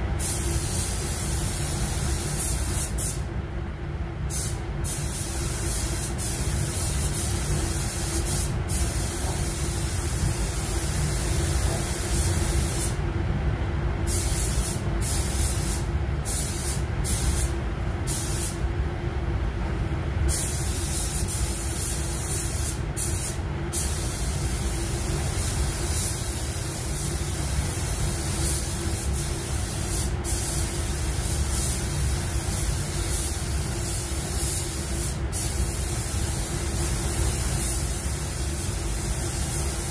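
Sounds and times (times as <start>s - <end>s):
steady low hum: 0.0s - 39.9s
paint spray gun hissing: 4.3s - 13.0s, 14.1s - 17.5s, 18.1s - 18.6s, 20.3s - 39.9s.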